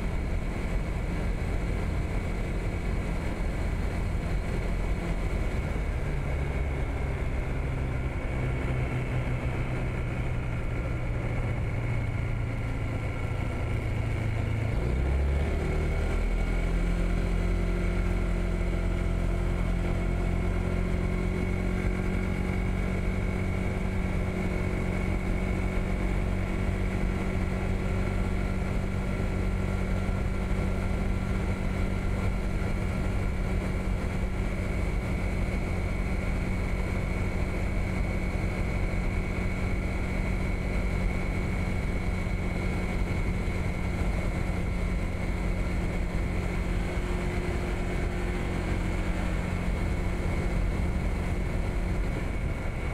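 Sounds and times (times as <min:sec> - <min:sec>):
scooter engine running: 0:00.0 - 0:52.9
wind and road noise: 0:00.0 - 0:52.9.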